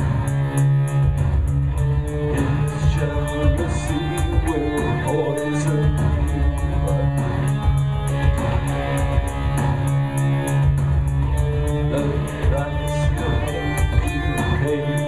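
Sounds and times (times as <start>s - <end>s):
electric guitar: 0.0s - 15.0s
fast ticking beat: 0.0s - 15.0s
heavy sustained bass: 0.0s - 15.0s
synthesizer: 0.0s - 15.0s.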